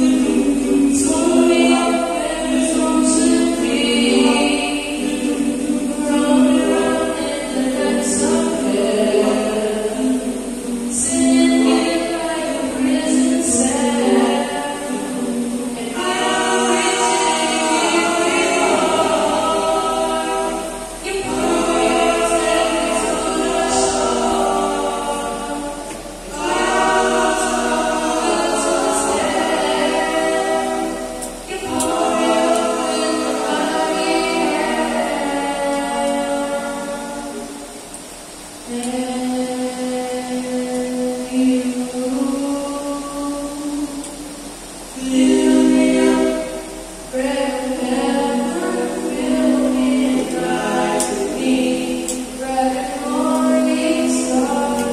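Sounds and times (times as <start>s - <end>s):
male vocal group singing in harmony: 0.0s - 37.7s, 38.6s - 54.9s.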